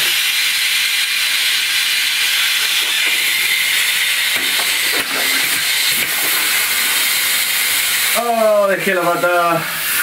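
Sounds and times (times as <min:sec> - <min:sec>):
air hissing from tyre puncture: 0:00.0 - 0:08.6, 0:09.3 - 0:10.0.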